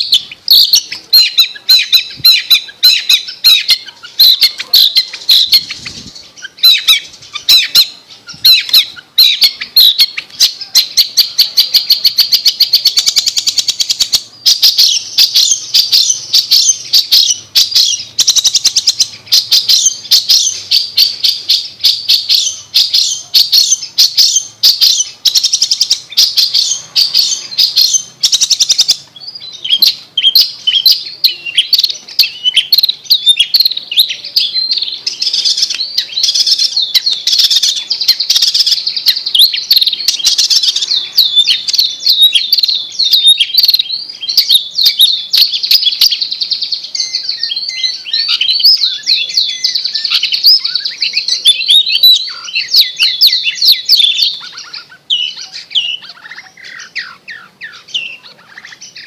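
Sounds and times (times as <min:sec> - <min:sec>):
bird chirps and trills: 0:00.0 - 0:59.0.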